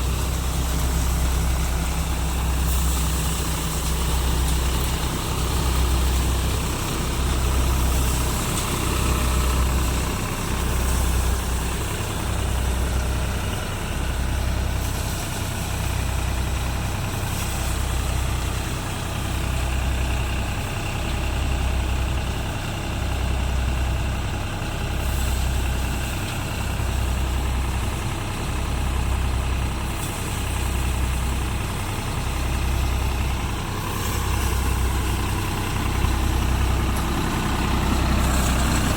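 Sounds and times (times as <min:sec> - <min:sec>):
thresher running: 0:00.0 - 0:22.7, 0:24.5 - 0:38.9
tractor engine running under load: 0:00.0 - 0:38.9.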